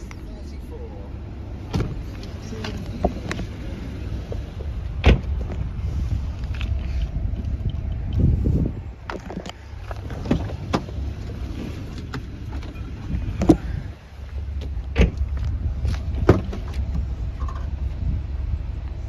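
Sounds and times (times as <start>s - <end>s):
wind rumble on microphone: 1.8s - 19.0s.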